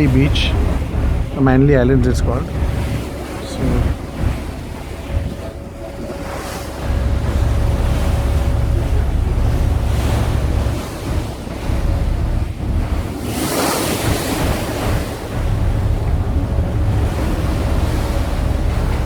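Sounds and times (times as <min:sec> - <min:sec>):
water rushing past hull: 0:00.0 - 0:19.0
wind buffeting microphone: 0:00.0 - 0:19.0.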